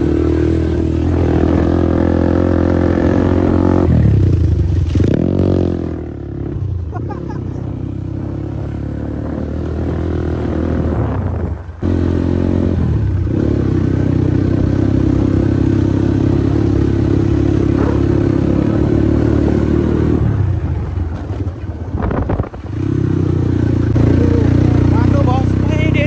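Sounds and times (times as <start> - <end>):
motorbike engine running: 0.0 - 26.0.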